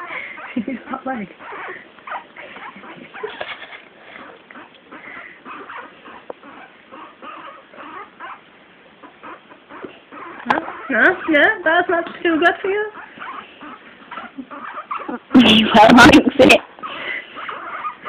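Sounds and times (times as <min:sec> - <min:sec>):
guinea pig squeaking: 0:00.0 - 0:18.0.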